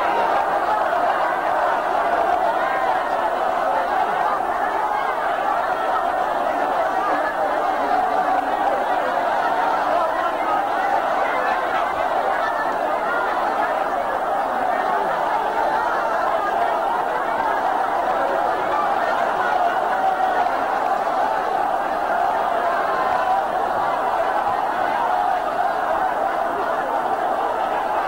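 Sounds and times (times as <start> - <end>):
large crowd din: 0.0 - 28.0.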